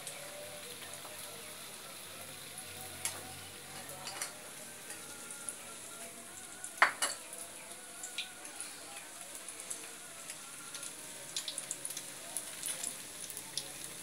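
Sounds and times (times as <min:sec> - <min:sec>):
food deep-frying in oil: 0:00.0 - 0:14.0.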